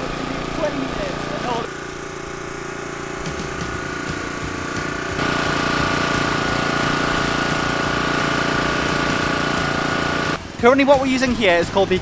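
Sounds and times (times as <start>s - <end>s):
drone propellers whining: 0.0s - 10.4s.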